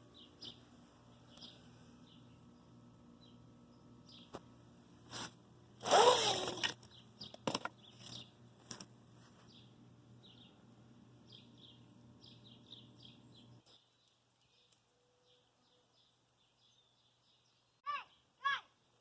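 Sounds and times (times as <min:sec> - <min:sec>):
small birds chirping: 0:00.0 - 0:04.6, 0:06.7 - 0:08.6, 0:09.2 - 0:19.0.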